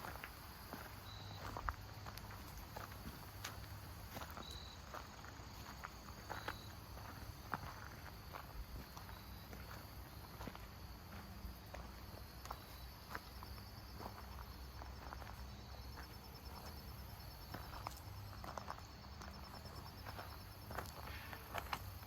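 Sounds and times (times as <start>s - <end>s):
insects chirping in a high trill: 0.0s - 22.0s.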